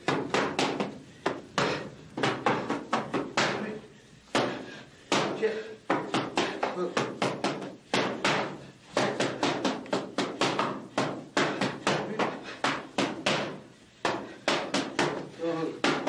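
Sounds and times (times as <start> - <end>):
boxing gloves slapping focus mitts: 0.0 - 16.0.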